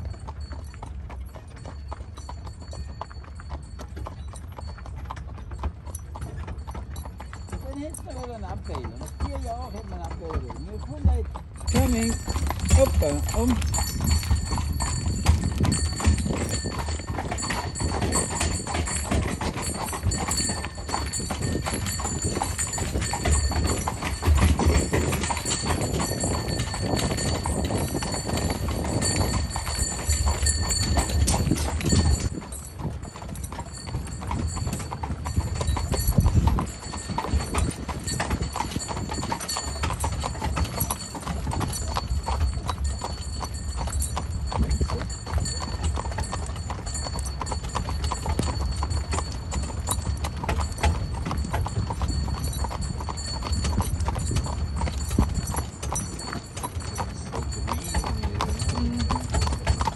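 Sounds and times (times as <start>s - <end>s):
horse hooves clip-clopping: 0.0s - 59.9s.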